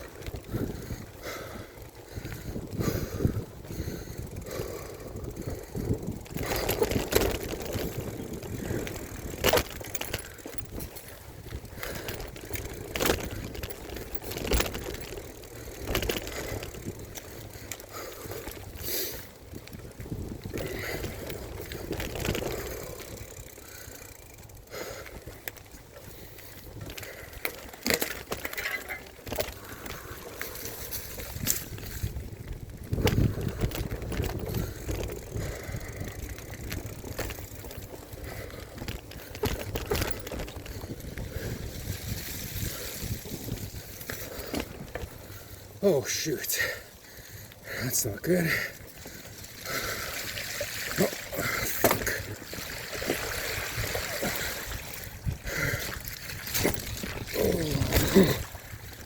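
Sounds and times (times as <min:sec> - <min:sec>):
bike knocks and rattles: 0:00.0 - 0:46.7, 0:48.5 - 0:59.0
bike tyres on dirt trail: 0:00.0 - 0:59.0.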